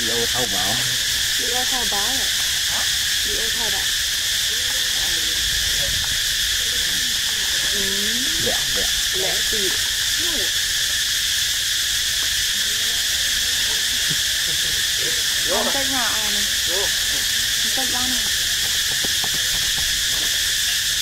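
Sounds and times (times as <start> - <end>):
faint wavering voices: 0.0 - 11.1, 11.9 - 21.0
insect chorus drone: 0.0 - 21.0.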